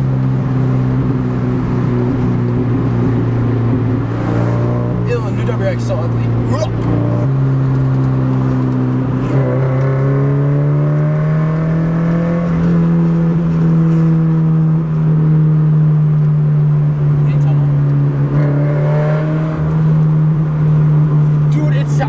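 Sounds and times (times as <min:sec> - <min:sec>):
car engine and exhaust droning: 0:00.0 - 0:22.0.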